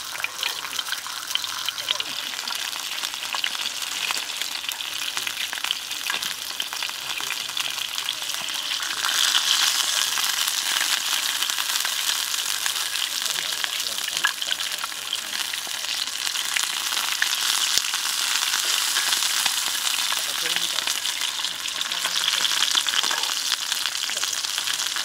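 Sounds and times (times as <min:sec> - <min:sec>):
liver frying in hot oil: 0:00.0 - 0:25.0.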